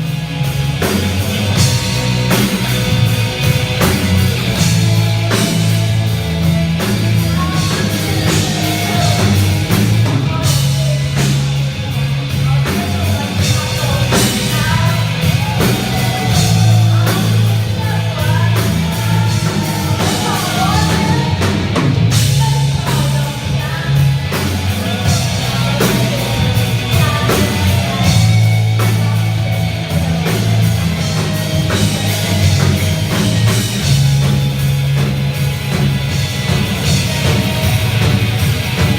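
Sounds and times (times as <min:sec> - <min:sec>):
rock band playing metal: 0:00.0 - 0:38.9.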